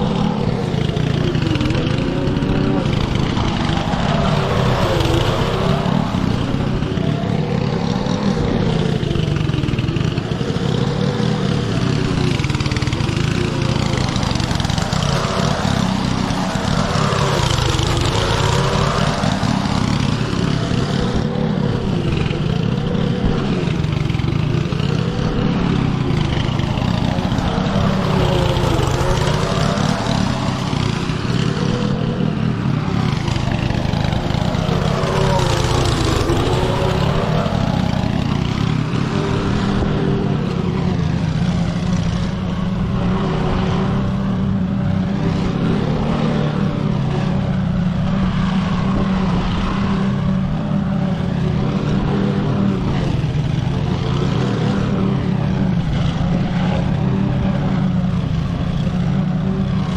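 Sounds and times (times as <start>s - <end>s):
lawn mower engine cutting grass: 0.0s - 59.9s.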